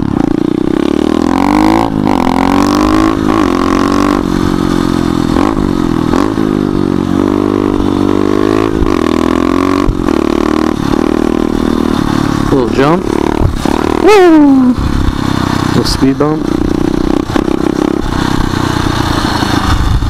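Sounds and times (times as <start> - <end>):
small motorbike engine revving: 0.0 - 20.0.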